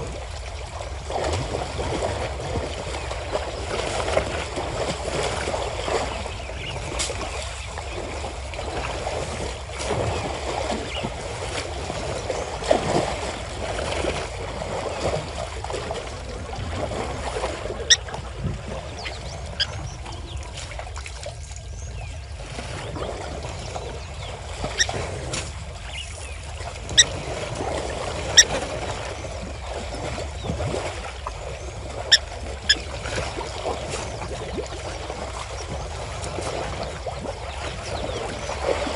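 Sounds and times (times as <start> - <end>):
water sloshing and splashing: 0.0 - 38.9.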